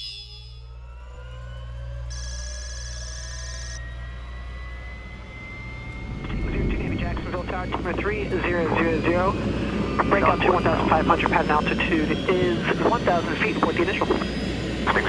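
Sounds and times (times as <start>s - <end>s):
jet engines running: 0.8s - 15.0s.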